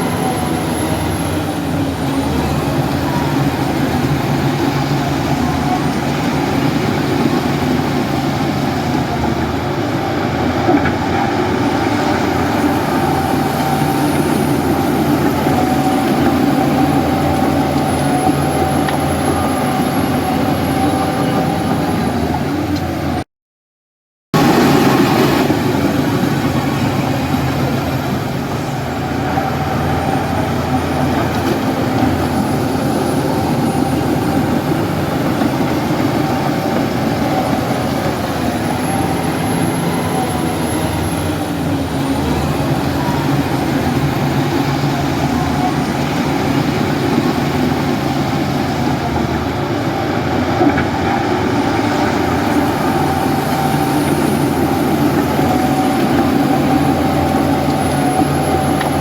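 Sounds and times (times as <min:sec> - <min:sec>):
heavy diesel engine running: 0:00.0 - 0:23.2, 0:24.4 - 0:59.0.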